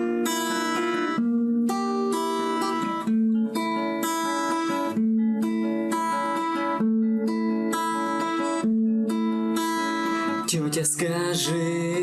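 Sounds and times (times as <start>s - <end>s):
fingerpicked acoustic guitar: 0.0s - 12.0s.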